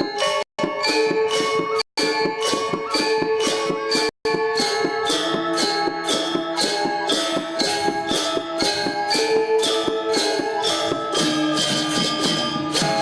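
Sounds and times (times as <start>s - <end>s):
gamelan gong ensemble playing: 0.1s - 13.0s.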